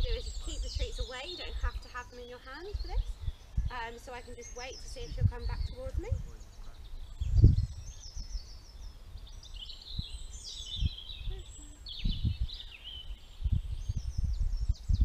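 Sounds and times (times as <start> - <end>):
songbirds chirping and trilling: 0.0 - 15.0
wind rumble on microphone: 0.0 - 15.0.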